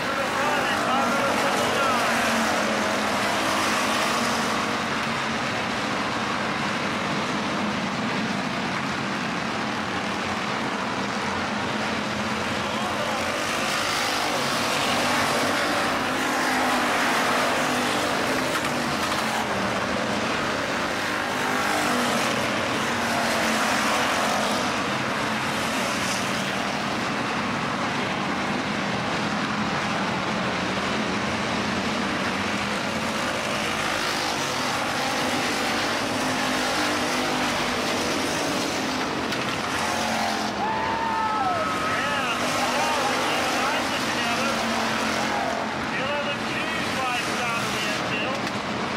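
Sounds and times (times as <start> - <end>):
race car engines passing: 0.0 - 48.9.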